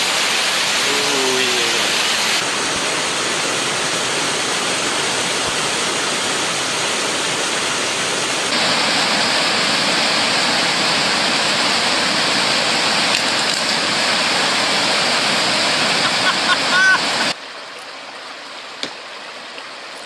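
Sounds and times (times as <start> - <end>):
steady rushing noise: 0.0 - 17.4.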